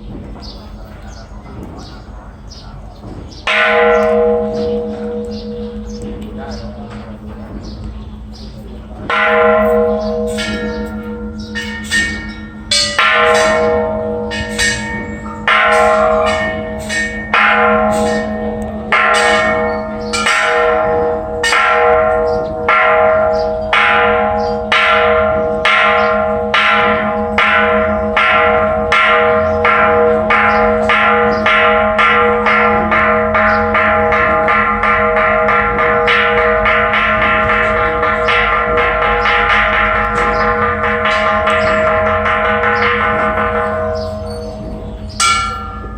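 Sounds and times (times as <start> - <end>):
temple bell struck: 3.0 - 45.9.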